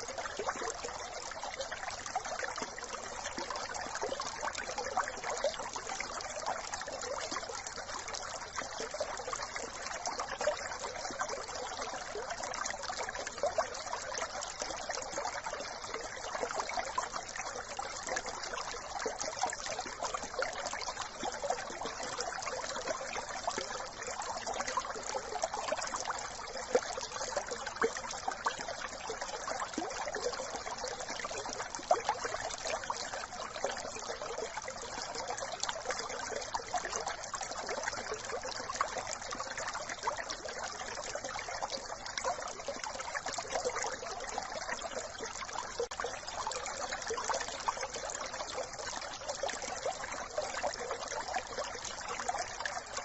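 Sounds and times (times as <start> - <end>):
brook babbling over stones: 0.0 - 53.0.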